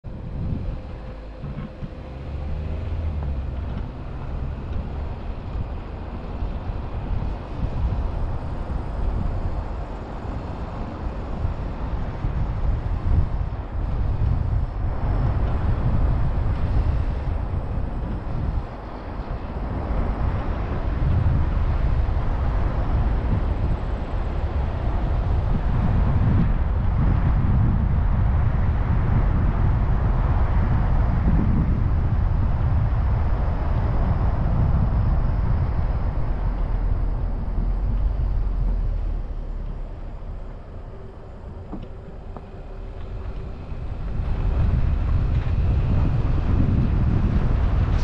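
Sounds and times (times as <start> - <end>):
vehicle engine rumble: 0.0 - 48.0
wind buffeting microphone: 0.0 - 48.0.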